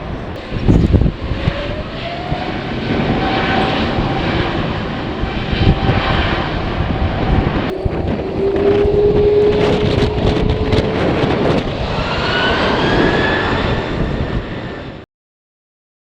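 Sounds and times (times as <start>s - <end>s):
jet engines whining: 0.0s - 15.0s
wind buffeting microphone: 0.0s - 15.0s.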